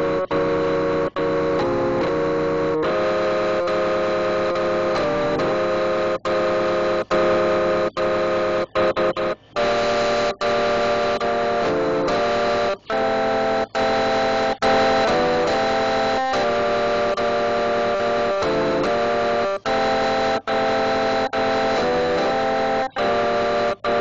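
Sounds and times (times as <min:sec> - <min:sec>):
buzzy synthesizer music: 0:00.0 - 0:24.0.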